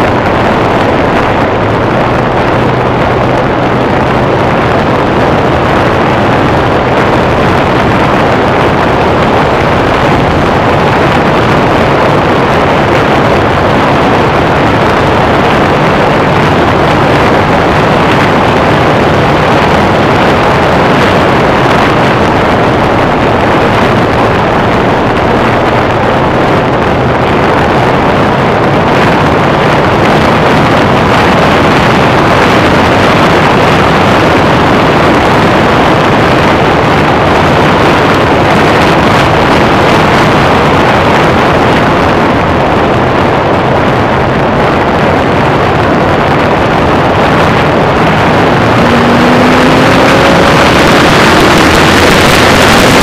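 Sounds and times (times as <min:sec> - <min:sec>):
car engine droning: 0:00.0 - 0:53.0
wind rushing over microphone: 0:00.0 - 0:53.0.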